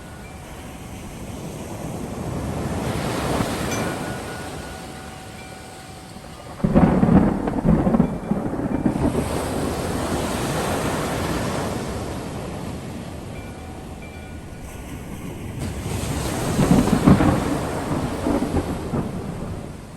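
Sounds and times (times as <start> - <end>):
faint wind chimes ringing: 0.0 - 19.9
rain hiss: 0.0 - 19.9
thunder rumbling: 0.0 - 19.9.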